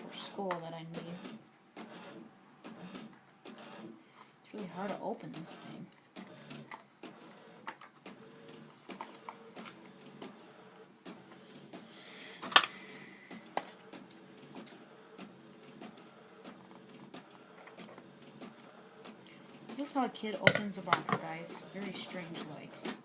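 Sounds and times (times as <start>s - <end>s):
printer running: 0.0s - 23.0s.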